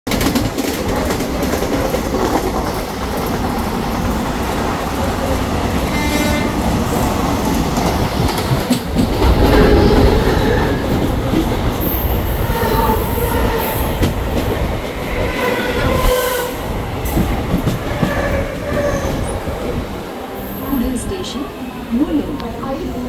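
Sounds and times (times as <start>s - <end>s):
train wheels rattling on track: 0.1s - 23.0s.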